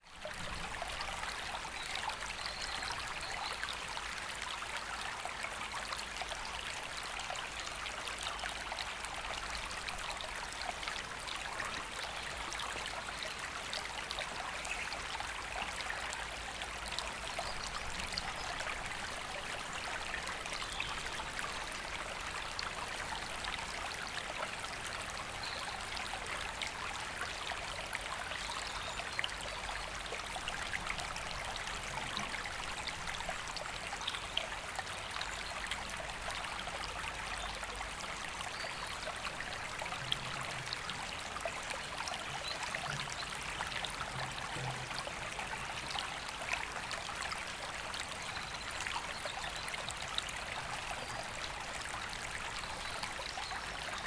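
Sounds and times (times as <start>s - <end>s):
river water babbling over stones: 0.2s - 54.0s.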